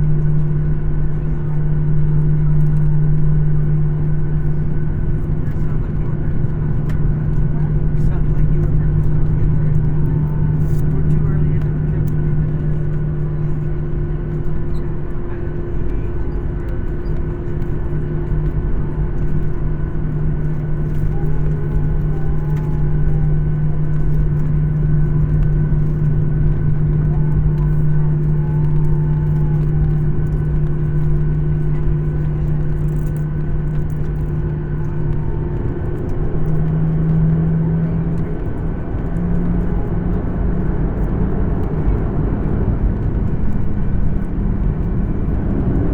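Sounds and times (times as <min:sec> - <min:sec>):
jet engines humming in cabin: 0:00.0 - 0:45.9.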